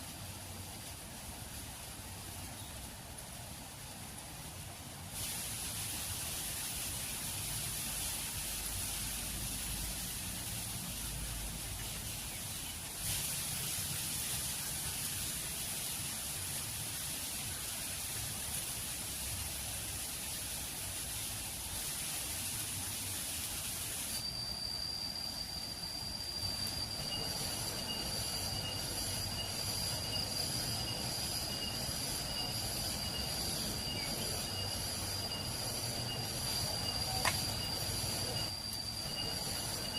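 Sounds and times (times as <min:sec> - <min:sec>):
high whine with pulsing chirps: 0:00.0 - 0:39.9
insects droning: 0:05.3 - 0:39.9.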